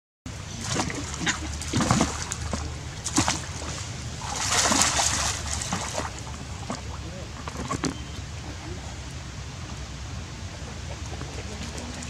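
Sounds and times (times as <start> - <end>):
water splashing: 0.3 - 12.0.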